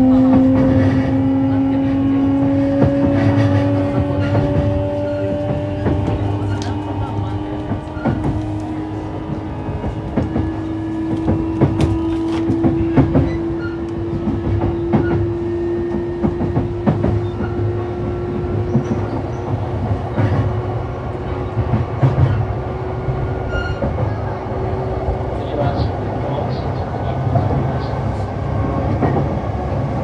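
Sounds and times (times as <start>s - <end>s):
train motor whine: 0.0s - 25.6s
track clicks and clacks: 0.0s - 30.0s
wheels rumbling on rails: 0.0s - 30.0s.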